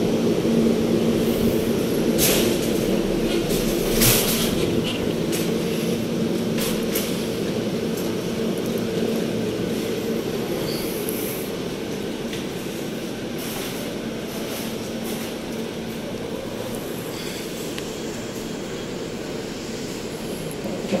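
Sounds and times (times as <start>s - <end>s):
elevator mechanical hum: 0.0s - 21.0s.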